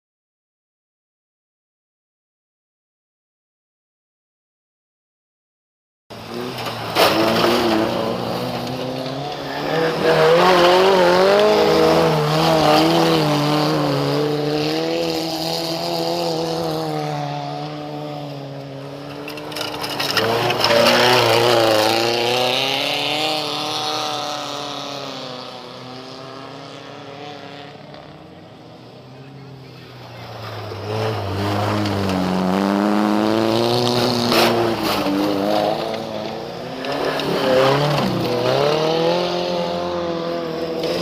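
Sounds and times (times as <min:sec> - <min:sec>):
race car engines revving: 0:06.1 - 0:41.0.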